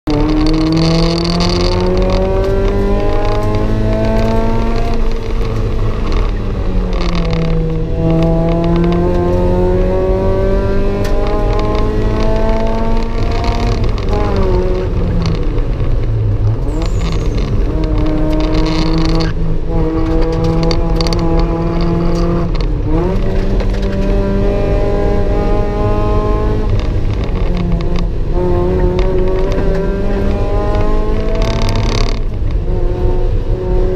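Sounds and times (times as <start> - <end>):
car engine revving from cabin: 0.1 - 33.9.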